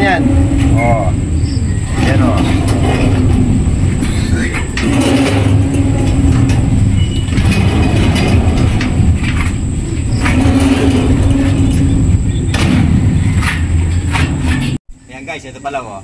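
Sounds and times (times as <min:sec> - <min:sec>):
sliding door rolling on track: 0:00.0 - 0:14.8
clicks and knocks: 0:00.2 - 0:14.8.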